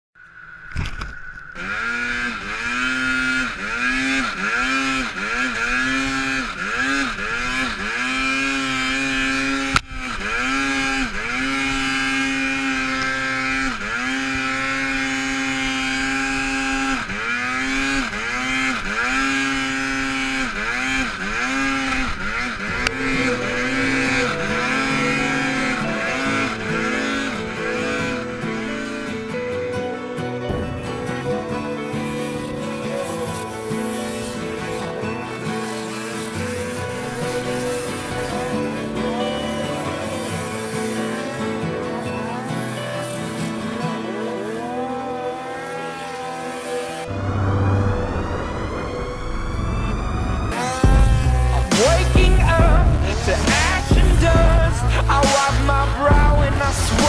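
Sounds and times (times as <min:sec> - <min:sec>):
snowmobile engine revving: 0:01.6 - 0:57.0.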